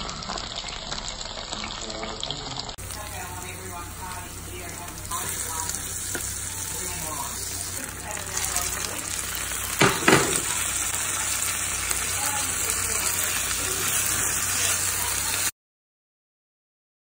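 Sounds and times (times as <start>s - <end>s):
food sizzling in a pan: 0.0s - 15.6s.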